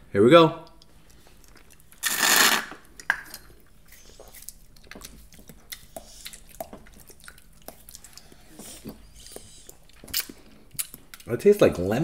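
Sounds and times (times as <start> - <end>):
lip smacks: 0.7 - 11.3.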